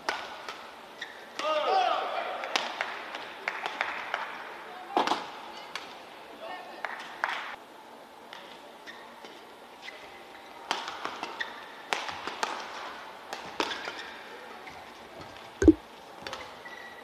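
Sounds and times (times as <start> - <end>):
quiet arena ambience: 0.0 - 17.0.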